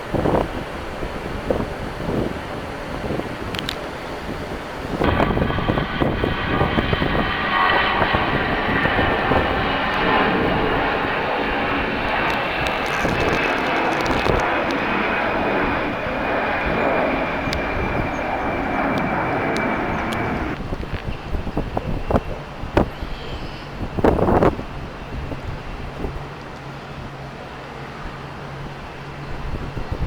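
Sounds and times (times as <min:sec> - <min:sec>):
airliner engines whining: 0:00.0 - 0:30.0.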